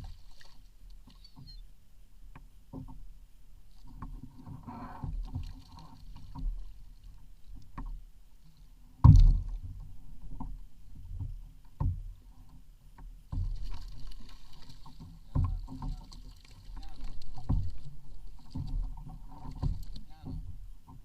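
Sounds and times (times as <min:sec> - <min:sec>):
water sloshing against hull: 0:00.0 - 0:21.0.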